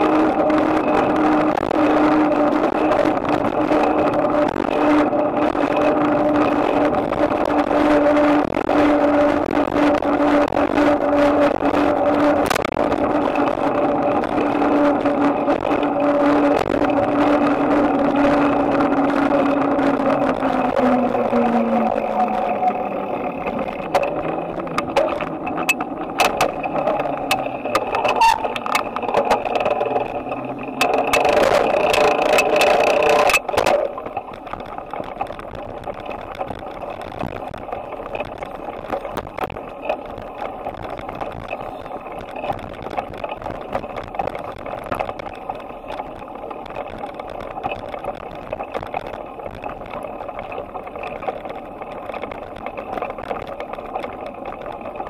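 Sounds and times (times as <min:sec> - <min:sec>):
bicycle clattering and rattling: 0:00.0 - 0:55.0
bicycle rolling hum: 0:00.0 - 0:55.0.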